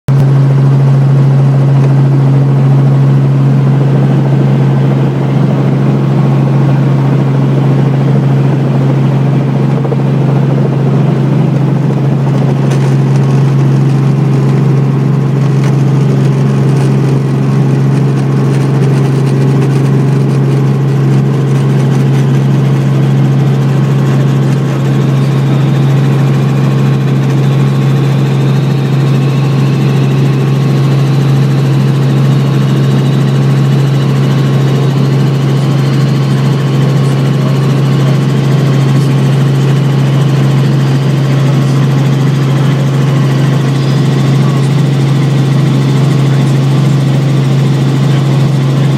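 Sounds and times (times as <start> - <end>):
helicopter engine and rotors humming: 0.1 - 48.9.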